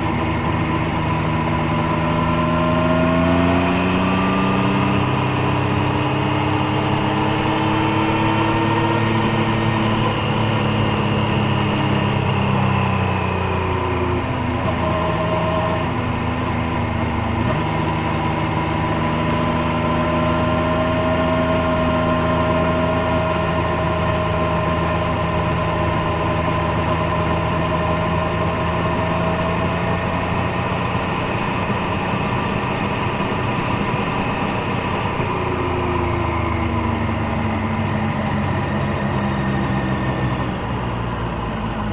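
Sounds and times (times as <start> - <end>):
motorcycle engine and exhaust: 0.0 - 41.9.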